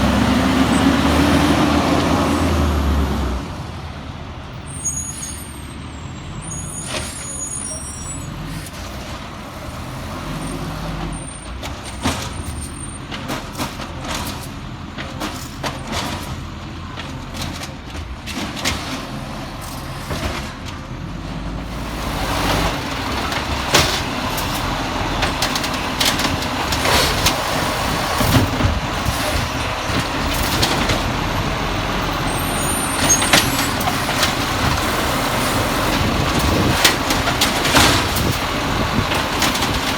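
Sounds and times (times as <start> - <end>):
garbage truck engine rumbling: 0.0 - 39.9.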